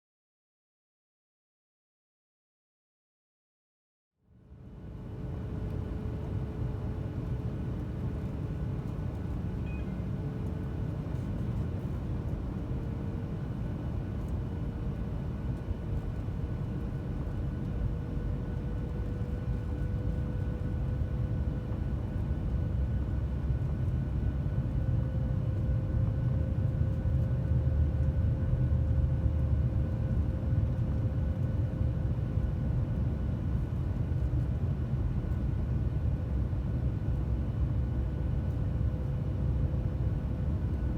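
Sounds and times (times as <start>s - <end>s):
jet engine whine: 4.4s - 40.9s
aircraft cabin rumble: 4.7s - 40.9s.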